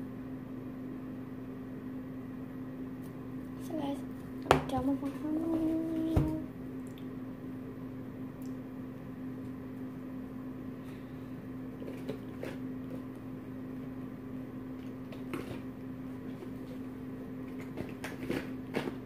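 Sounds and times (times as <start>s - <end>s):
electrical hum of appliance: 0.0s - 19.0s.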